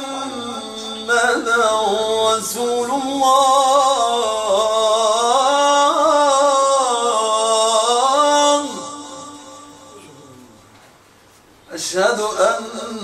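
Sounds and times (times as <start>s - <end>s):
man chanting call to prayer: 0.0s - 10.9s, 11.7s - 13.0s.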